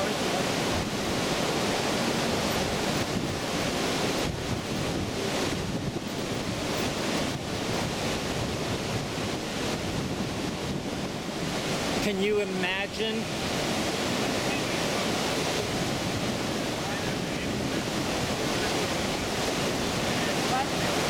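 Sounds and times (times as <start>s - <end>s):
rapids rushing over rocks: 0.0s - 21.0s.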